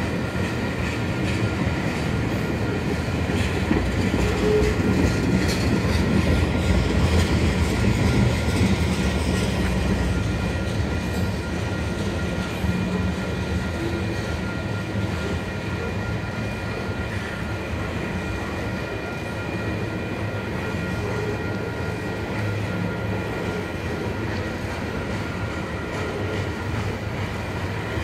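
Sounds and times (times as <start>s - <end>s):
rumble of wheels on rail: 0.0s - 28.0s.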